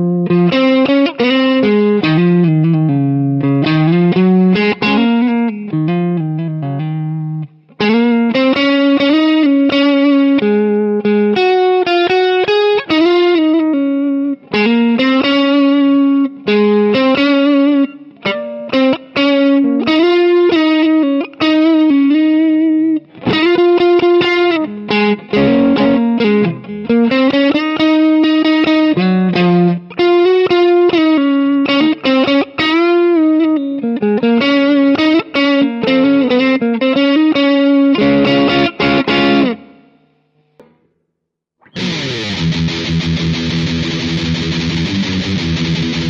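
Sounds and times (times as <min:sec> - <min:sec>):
electric guitar lead line: 0:00.0 - 0:40.8, 0:41.6 - 0:46.0.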